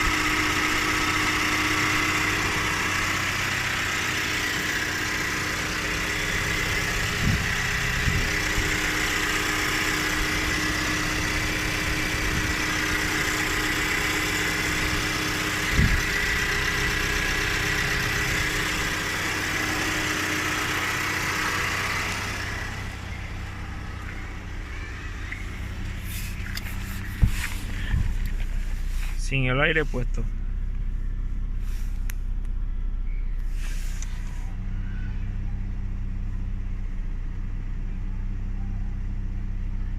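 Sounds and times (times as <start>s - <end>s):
car engine running: 0.0s - 39.9s
high-pitched engine whine: 0.0s - 39.9s.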